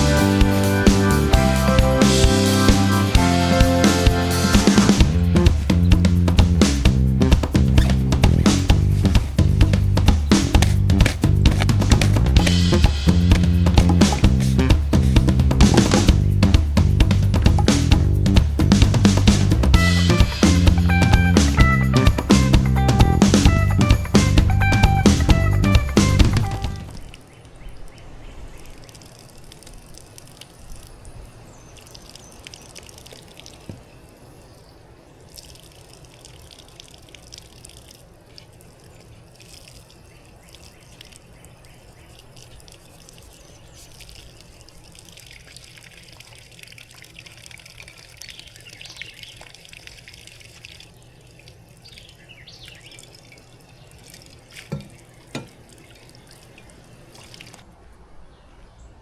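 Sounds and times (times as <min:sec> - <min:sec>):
water trickling and dripping: 0:00.0 - 0:57.8.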